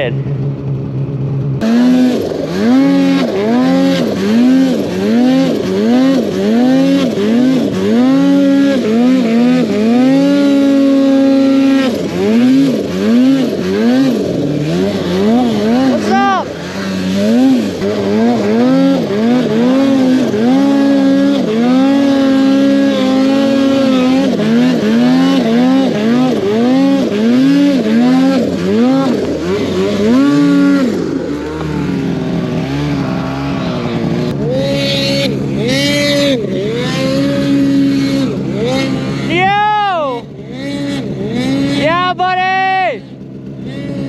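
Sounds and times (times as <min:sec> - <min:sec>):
snowmobile engine revving: 0:00.0 - 0:44.0.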